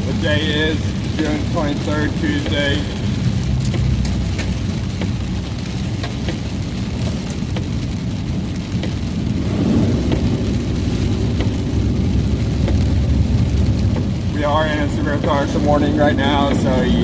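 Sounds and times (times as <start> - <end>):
rain pattering: 0.0 - 17.0
steady low rumble: 0.0 - 17.0.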